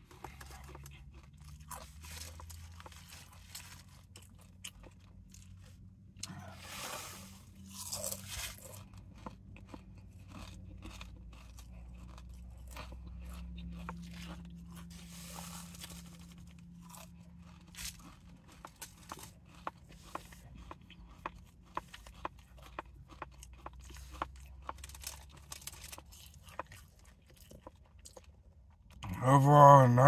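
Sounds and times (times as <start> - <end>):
chips crunching while chewed: 0.0 - 29.1.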